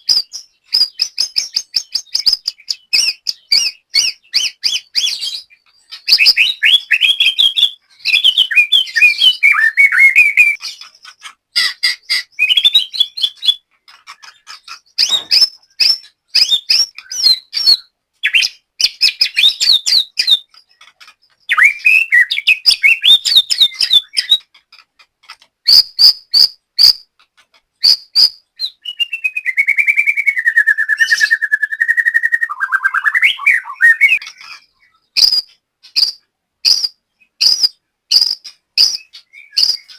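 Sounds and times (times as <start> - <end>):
songbird whistling and chirping: 0.0 - 24.8, 25.6 - 27.1, 27.8 - 39.9.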